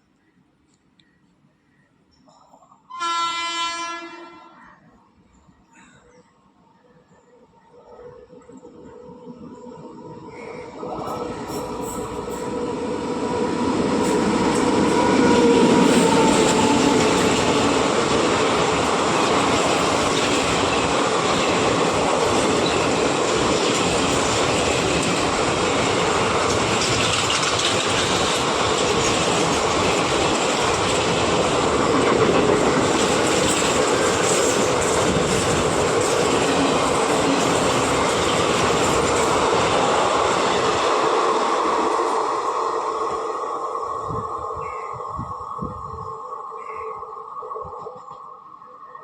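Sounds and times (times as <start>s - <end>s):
train wheels rolling on rails: 6.9s - 49.0s.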